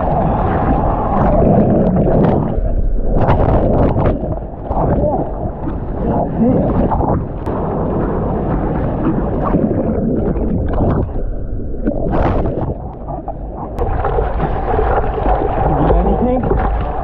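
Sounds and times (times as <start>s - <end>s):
low rumble: 0.0s - 17.0s
ocean surf splashing: 0.0s - 17.0s.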